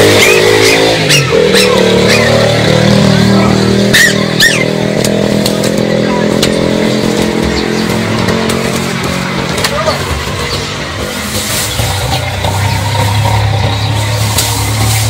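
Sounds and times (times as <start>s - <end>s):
high chirps and squeaks: 0.0s - 2.7s, 3.8s - 8.6s, 9.8s - 15.0s
loud droning hum: 0.0s - 15.0s.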